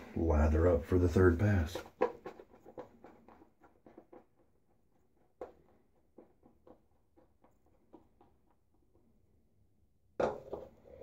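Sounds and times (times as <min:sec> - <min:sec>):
shaving brush squishing lather: 0:00.0 - 0:09.1.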